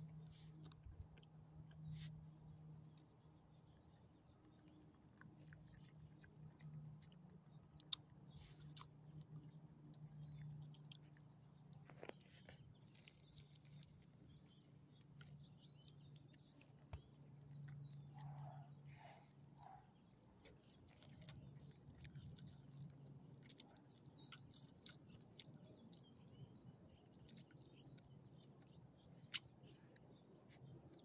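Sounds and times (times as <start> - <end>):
dog chewing and licking: 0.1 - 31.0.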